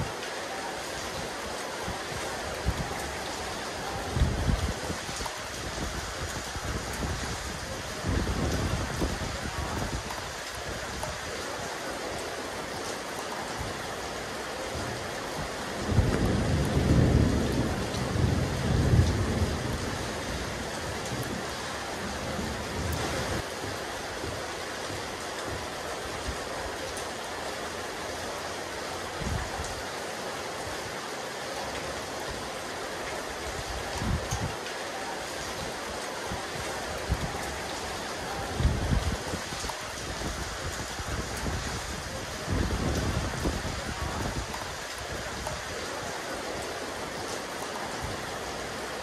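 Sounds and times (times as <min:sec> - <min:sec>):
rain on a rooftop: 0:00.0 - 0:49.0.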